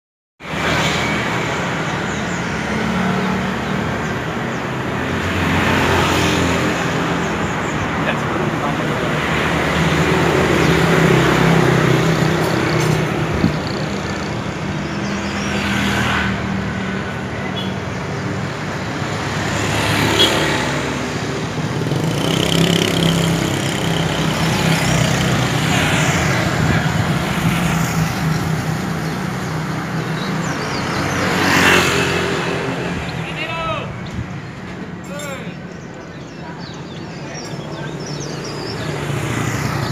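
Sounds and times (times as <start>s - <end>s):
vehicles passing: 0.4s - 39.9s.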